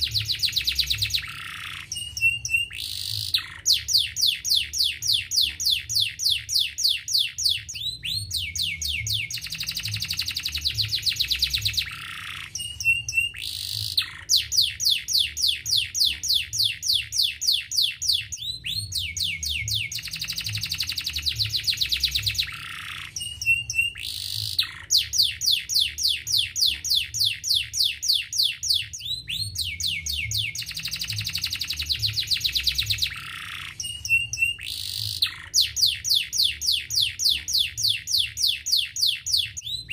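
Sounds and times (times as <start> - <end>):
canary singing rapid chirps: 0.0 - 39.9.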